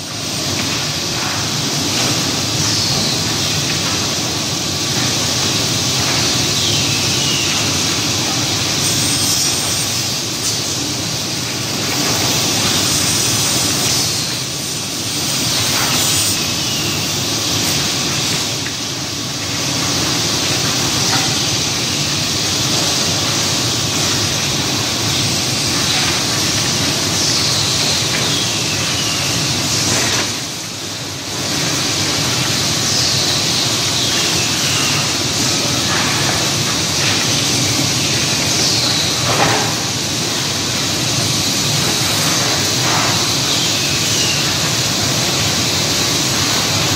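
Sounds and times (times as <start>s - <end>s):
machine drone with hiss: 0.0s - 46.9s.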